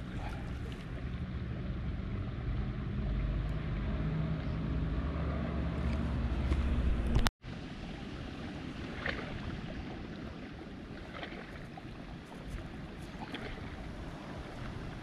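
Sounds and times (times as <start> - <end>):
lake water: 0.0 - 15.0
wind rumbling on microphone: 0.0 - 15.0.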